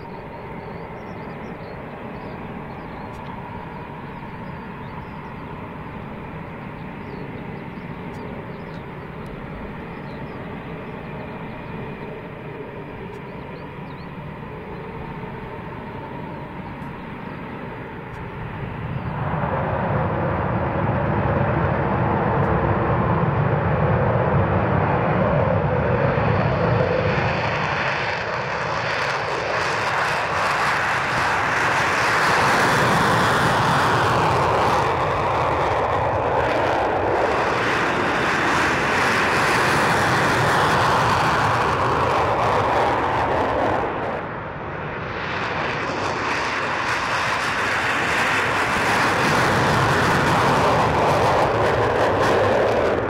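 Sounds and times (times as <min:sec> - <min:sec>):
jet engine roar: 0:00.0 - 0:53.0.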